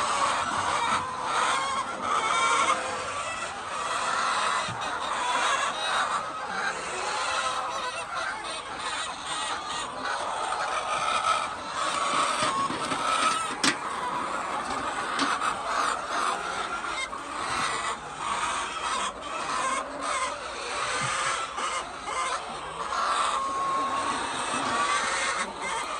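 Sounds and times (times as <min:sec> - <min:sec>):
hens clucking and squawking: 0:00.0 - 0:25.9.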